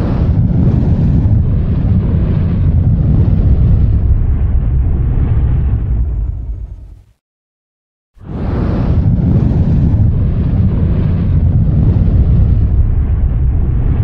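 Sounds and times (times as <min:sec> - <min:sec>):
deep rumbling explosion: 0:00.0 - 0:07.2, 0:08.2 - 0:14.0.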